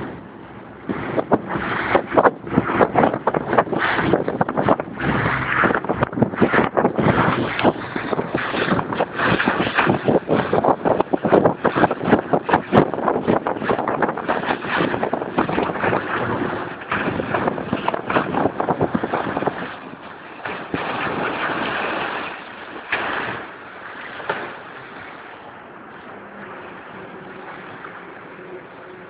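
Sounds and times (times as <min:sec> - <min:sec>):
water rushing past boat hull: 0:00.0 - 0:29.0
wind buffeting microphone: 0:00.0 - 0:29.0.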